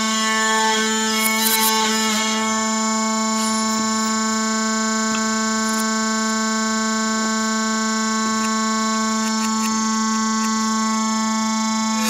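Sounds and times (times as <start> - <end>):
drone of held tones: 0.0 - 12.0.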